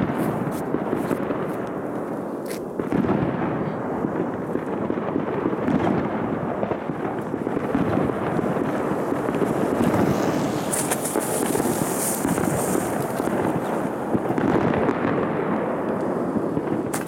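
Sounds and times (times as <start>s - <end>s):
firework cake crackling and hissing: 0.0s - 17.0s
fireworks crackling: 0.0s - 17.0s.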